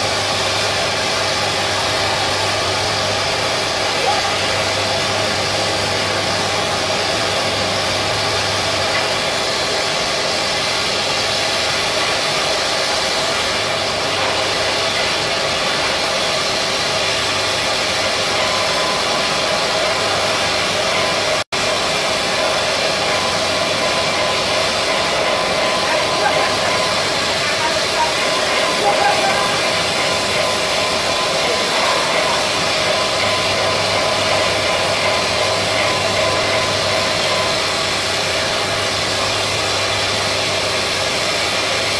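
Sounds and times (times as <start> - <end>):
machinery rushing hiss: 0.0 - 41.9.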